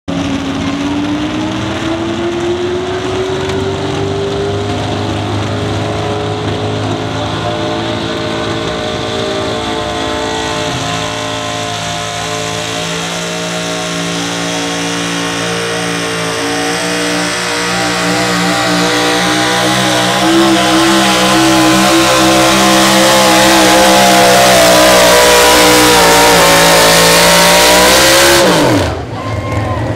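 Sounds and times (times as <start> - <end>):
truck engine revving hard: 0.1 - 29.9.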